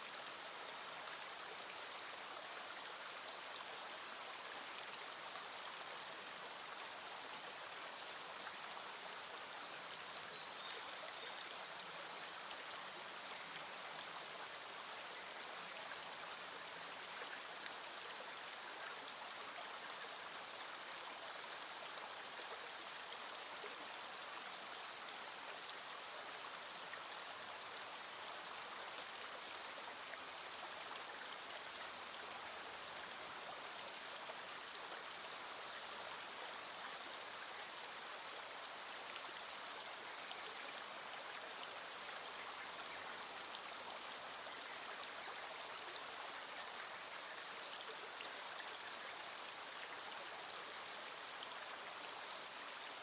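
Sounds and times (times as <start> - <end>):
small stream flowing: 0.0 - 53.0.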